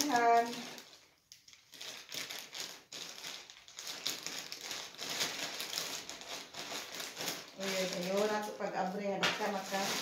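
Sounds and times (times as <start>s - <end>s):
plastic crinkling and rustling: 0.0s - 10.0s
scissors cutting plastic bag: 0.0s - 10.0s.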